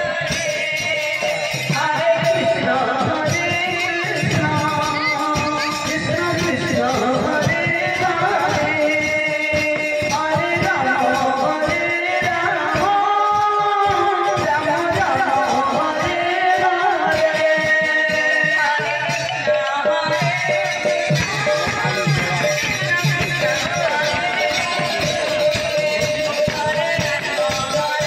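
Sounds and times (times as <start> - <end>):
drums and percussion: 0.0 - 28.0
melodic devotional singing: 0.0 - 28.0.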